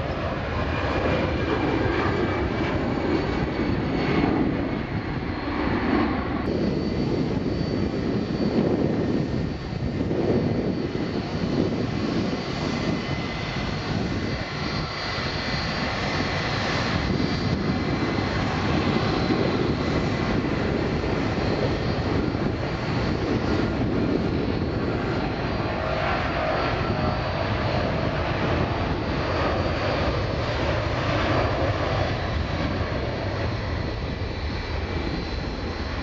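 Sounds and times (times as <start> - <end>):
jet engines rumbling with whine: 0.0 - 36.0.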